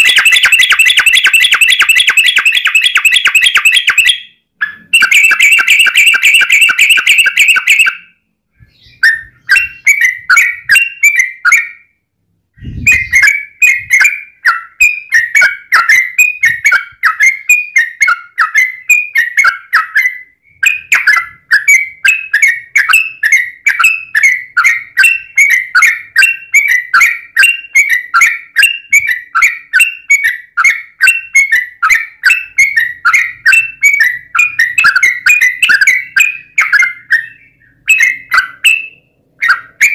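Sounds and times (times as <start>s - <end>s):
bulbul singing chatter: 0.0s - 11.8s, 12.6s - 39.9s.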